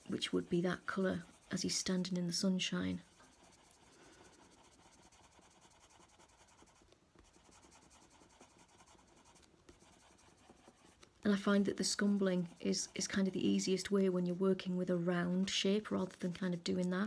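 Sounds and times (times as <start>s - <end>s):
coloured pencil scratching on paper: 0.0s - 16.9s.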